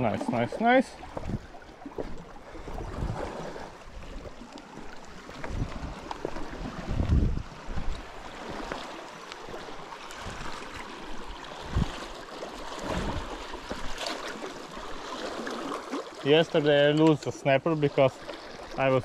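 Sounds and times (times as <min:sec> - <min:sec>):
sea water lapping against rocks: 0:00.0 - 0:19.0.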